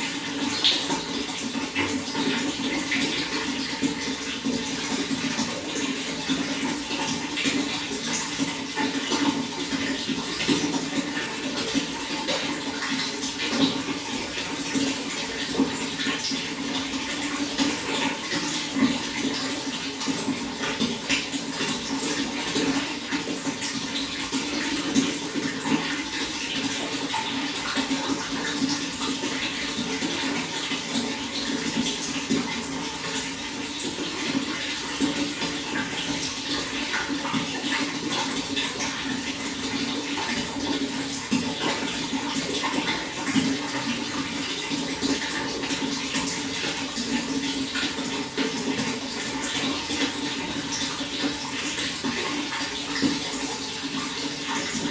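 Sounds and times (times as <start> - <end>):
water splashing and gurgling: 0.0 - 54.9.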